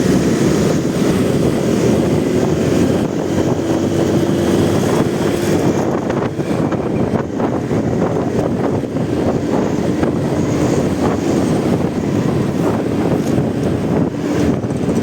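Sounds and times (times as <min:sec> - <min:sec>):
motorcycle engine hum: 0:00.0 - 0:15.0
wind buffeting microphone: 0:00.0 - 0:15.0.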